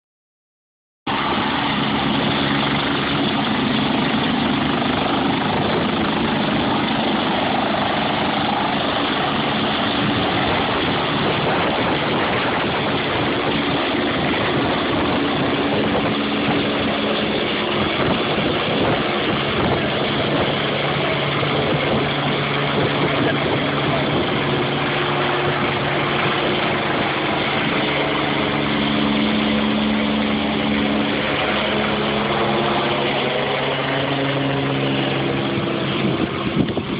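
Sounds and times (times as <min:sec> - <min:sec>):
helicopter turbine and rotor: 0:01.1 - 0:36.9.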